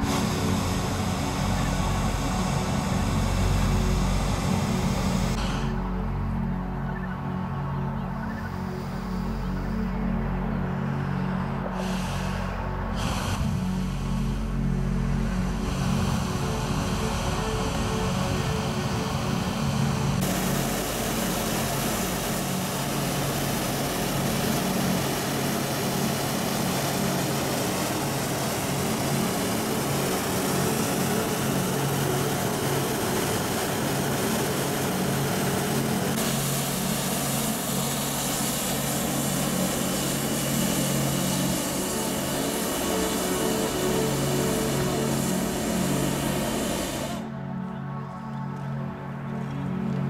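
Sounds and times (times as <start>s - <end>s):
propane burner roaring: 0.0s - 6.6s, 11.6s - 47.4s
low engine drone: 0.0s - 50.0s.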